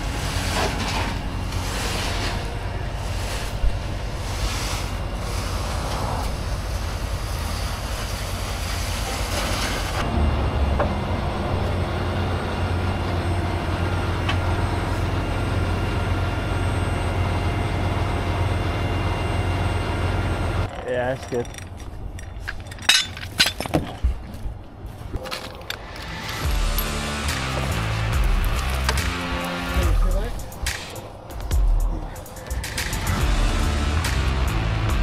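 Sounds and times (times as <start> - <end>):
diesel truck engine humming: 0.0 - 20.7, 26.4 - 35.0.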